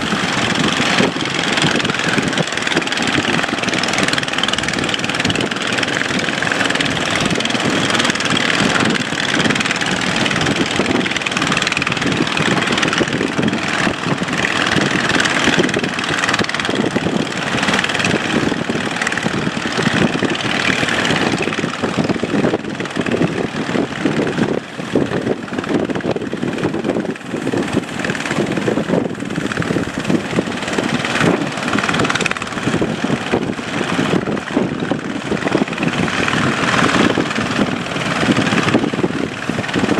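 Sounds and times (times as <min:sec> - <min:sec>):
boat engine running: 0:00.0 - 0:39.9
loud constant rushing noise: 0:00.0 - 0:39.9.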